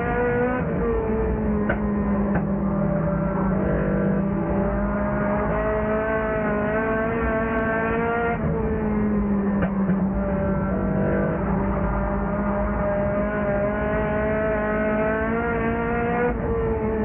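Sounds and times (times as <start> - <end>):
race car engine: 0.0 - 17.0.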